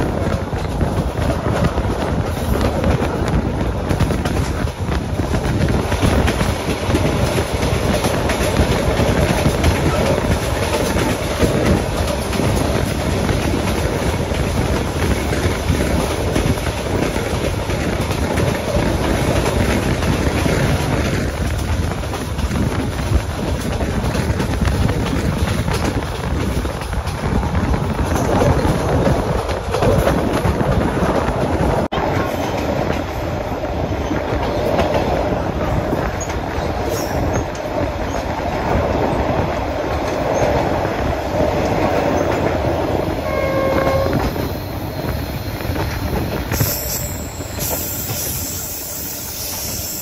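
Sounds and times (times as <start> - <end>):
track and carriage rattles: 0.0 - 50.0
train wheels rumbling on rails: 0.0 - 50.0.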